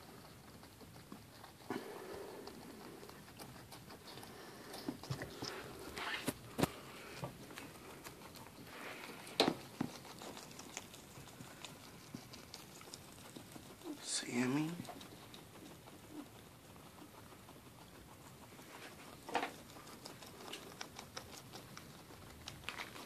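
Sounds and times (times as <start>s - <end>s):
guinea pigs chewing lettuce: 0.0s - 23.0s.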